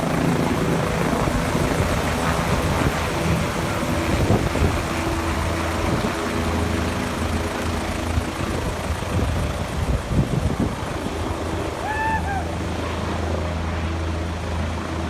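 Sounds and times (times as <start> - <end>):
helicopter rotor and turbine: 0.0 - 15.0.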